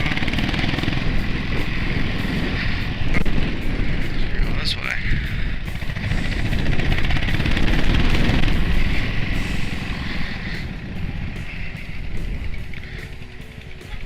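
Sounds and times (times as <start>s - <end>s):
motorcycle engine running: 0.0s - 14.0s
wind noise: 0.0s - 14.0s.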